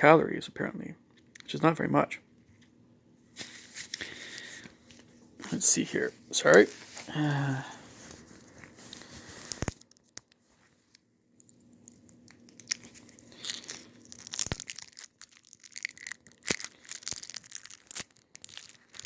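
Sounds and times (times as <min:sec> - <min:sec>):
plastic packaging crinkling: 0:03.4 - 0:19.0.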